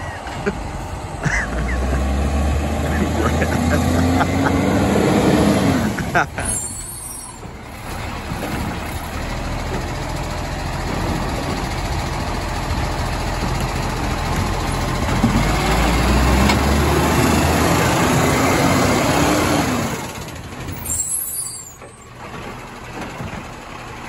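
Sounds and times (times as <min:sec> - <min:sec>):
garbage truck diesel engine: 0:00.0 - 0:24.0.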